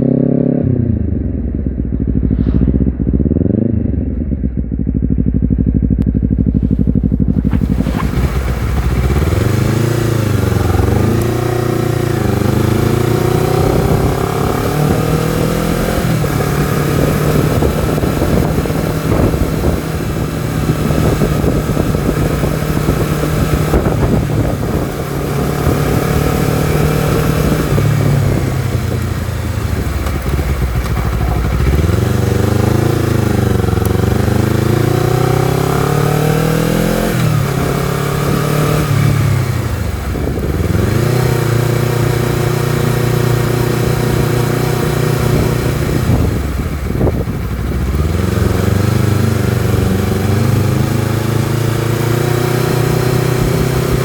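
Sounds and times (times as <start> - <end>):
motorcycle engine revving: 0.0 - 54.0
wind rush: 0.7 - 4.7, 6.4 - 54.0.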